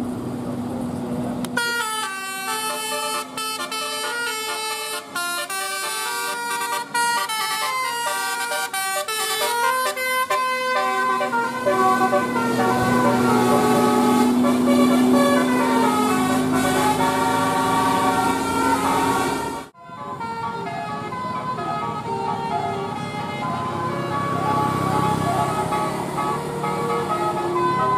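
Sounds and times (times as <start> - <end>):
bus engine hum: 0.0 - 27.9
multi-tone bus horn melody: 1.4 - 27.9.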